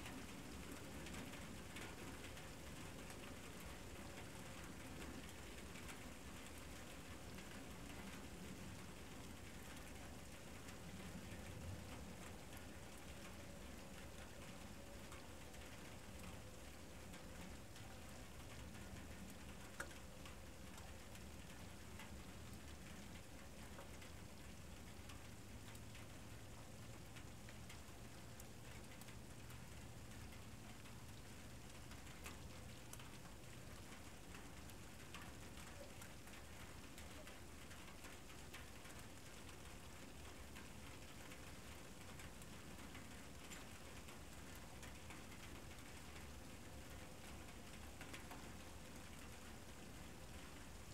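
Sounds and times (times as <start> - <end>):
faint steady hiss: 0.0 - 50.9
faint ticks: 0.0 - 50.9.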